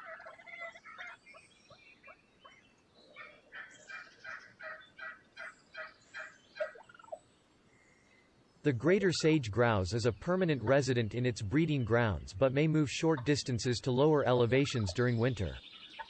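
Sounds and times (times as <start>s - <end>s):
wild turkey calling: 0.0s - 16.0s.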